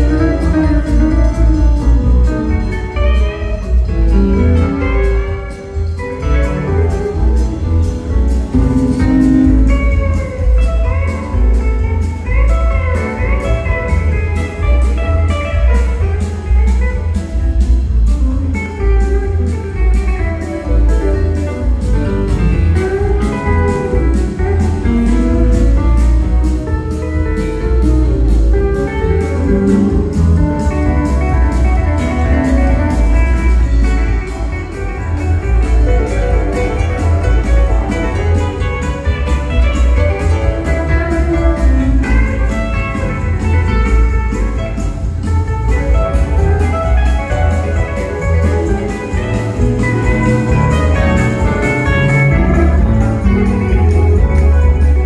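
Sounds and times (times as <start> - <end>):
electric guitar with bent notes: 0.0 - 55.0
live blues-rock band: 0.0 - 55.0.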